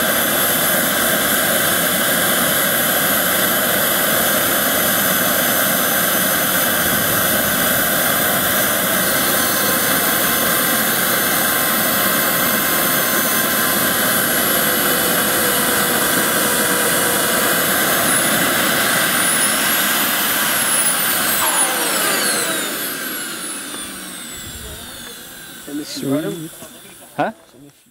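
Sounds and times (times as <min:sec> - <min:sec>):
jet turbine rush and whine: 0:00.0 - 0:27.9.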